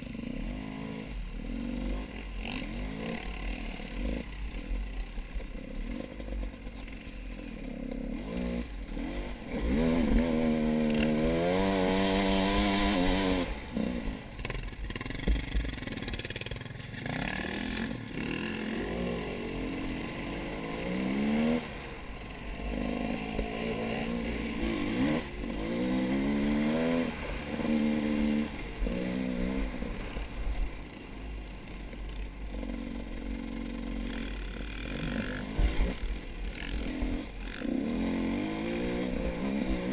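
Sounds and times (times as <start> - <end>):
vehicle engine revving: 0.0 - 30.8, 32.0 - 39.9.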